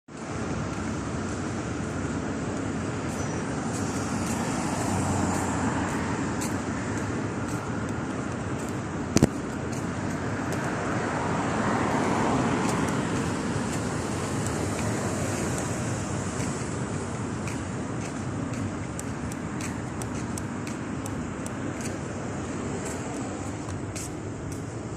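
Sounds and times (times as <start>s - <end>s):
street traffic: 0.1s - 24.9s
vehicles passing: 0.1s - 24.9s.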